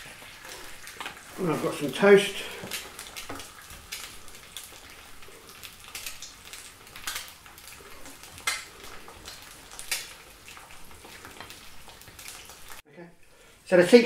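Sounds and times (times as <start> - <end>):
faint frying sizzle: 0.0 - 14.0.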